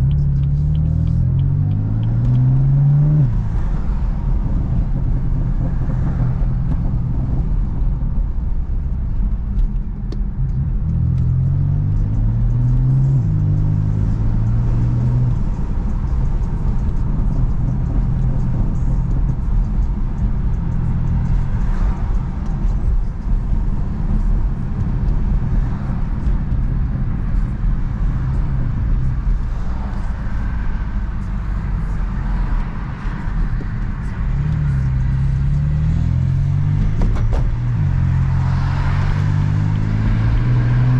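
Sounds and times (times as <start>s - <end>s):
car engine drone from cabin: 0.0s - 40.9s
road noise: 0.0s - 40.9s.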